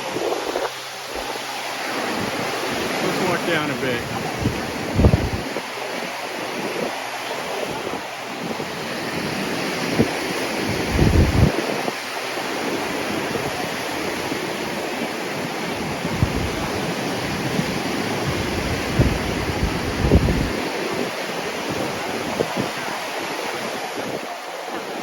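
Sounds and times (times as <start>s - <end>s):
surf breaking on beach: 0.0s - 25.0s
wind buffeting microphone: 0.0s - 25.0s.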